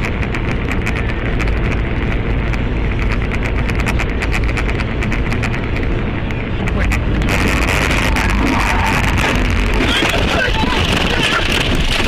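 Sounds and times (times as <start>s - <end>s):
car engine and road rumble: 0.0s - 12.0s
rapid irregular ticking: 0.0s - 12.0s.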